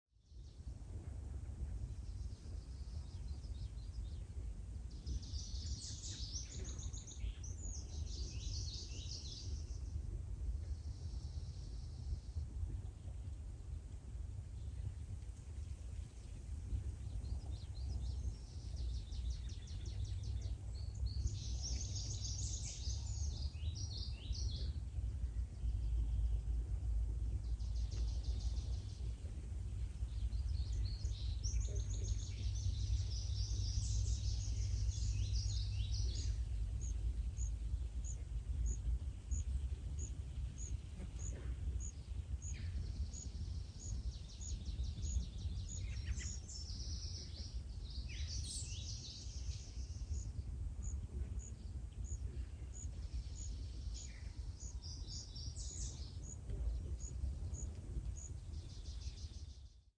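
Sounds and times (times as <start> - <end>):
constant low rumble: 0.2 - 59.9
songbirds singing: 0.2 - 59.9.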